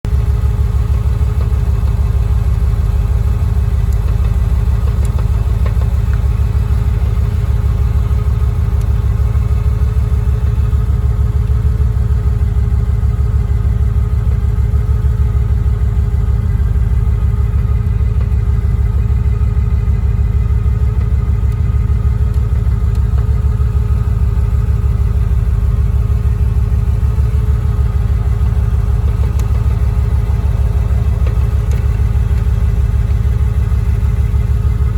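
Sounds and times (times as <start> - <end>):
car engine idling: 0.0 - 34.9
shifter rattling: 0.1 - 34.9.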